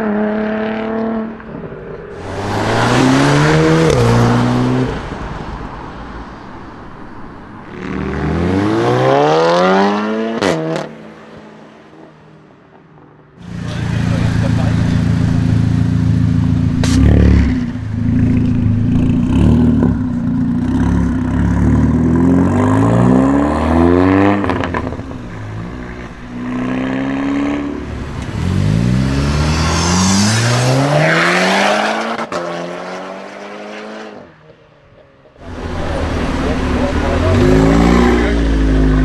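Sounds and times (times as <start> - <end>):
car engine accelerating: 2.2 - 10.9, 13.4 - 34.2, 35.4 - 39.0.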